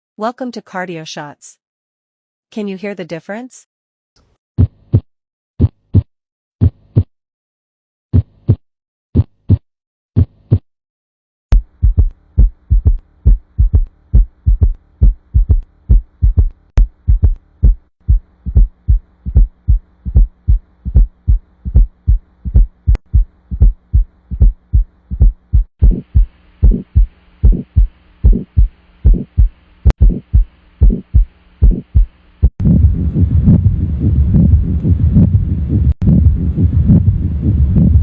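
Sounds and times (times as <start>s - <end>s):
heartbeat through stethoscope: 4.6s - 7.1s, 8.1s - 8.6s, 9.2s - 9.6s, 10.2s - 10.6s, 11.6s - 38.0s.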